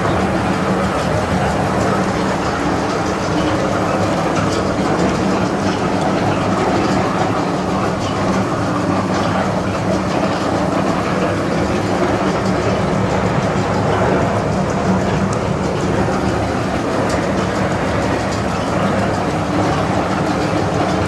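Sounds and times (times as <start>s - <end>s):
mill machinery humming and rattling: 0.0s - 21.0s.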